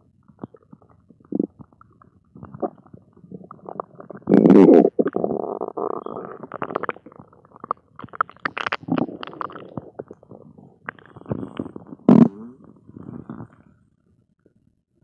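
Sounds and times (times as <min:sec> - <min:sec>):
stomach growling and gurgling: 0:00.0 - 0:14.6.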